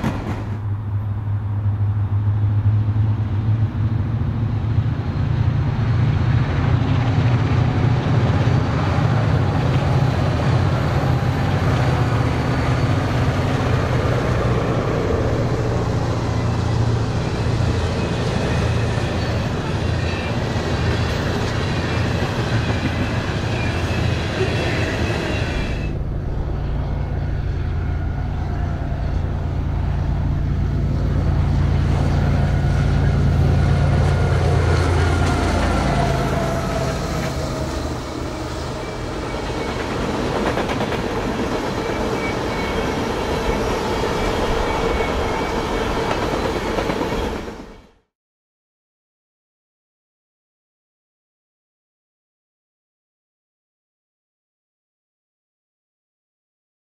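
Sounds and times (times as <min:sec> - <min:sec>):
freight cars rumbling on rails: 0:00.0 - 0:48.0
diesel locomotives passing: 0:00.0 - 0:48.1
low drone of diesel locomotives: 0:00.0 - 0:48.1.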